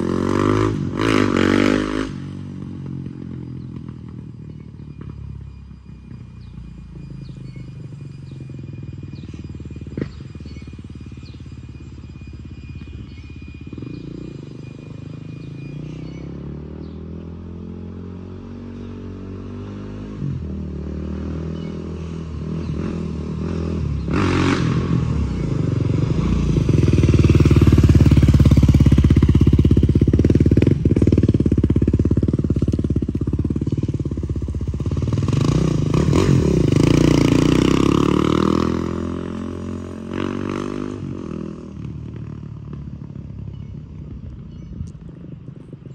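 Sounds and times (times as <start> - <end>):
dirt bike engine revving: 0.0 - 42.4.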